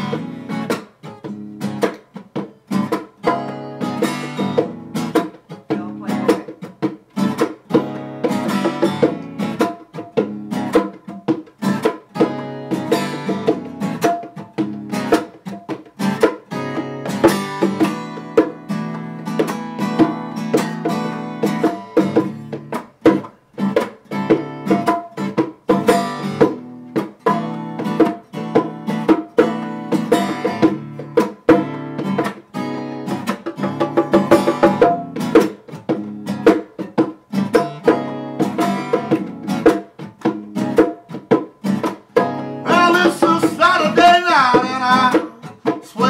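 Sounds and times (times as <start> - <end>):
acoustic guitar strumming: 0.0 - 46.0
bongos played by hand: 0.0 - 46.0.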